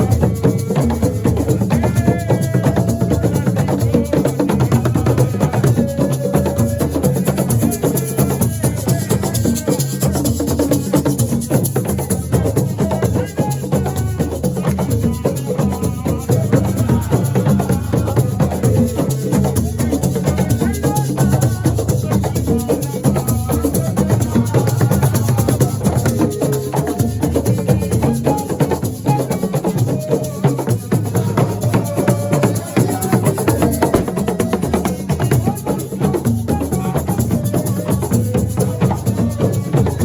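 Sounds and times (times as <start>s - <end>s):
drums: 0.0s - 40.0s
shaker rattles: 0.0s - 40.0s.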